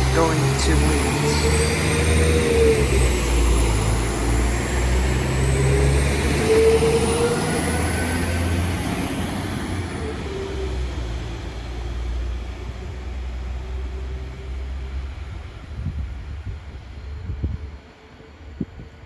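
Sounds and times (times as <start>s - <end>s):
diesel train engine drone: 0.0s - 15.6s.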